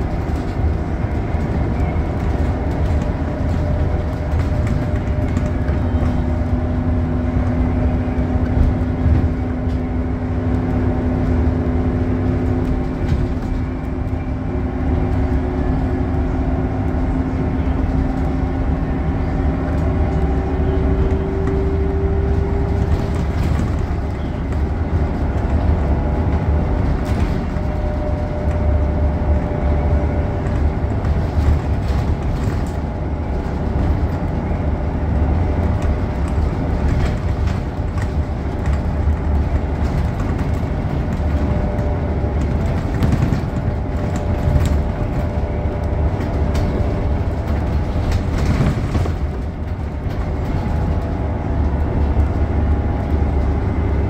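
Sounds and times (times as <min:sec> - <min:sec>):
bus engine running: 0:00.0 - 0:54.0
bus interior rattles: 0:00.0 - 0:54.0
low road rumble: 0:00.0 - 0:54.0.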